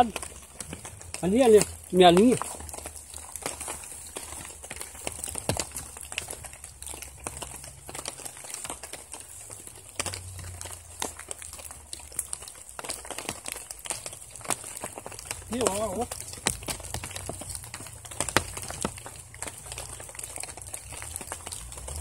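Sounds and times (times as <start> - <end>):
rain suit rustling: 0.0 - 22.0.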